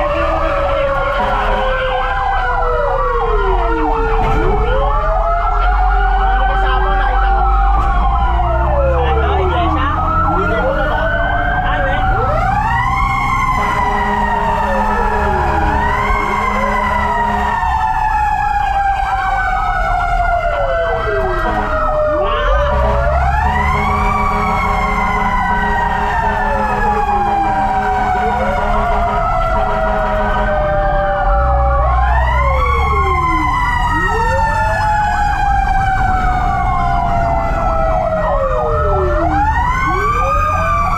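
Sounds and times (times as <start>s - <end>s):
fire truck sirens wailing: 0.0s - 40.9s
truck engine rumble: 0.0s - 40.9s.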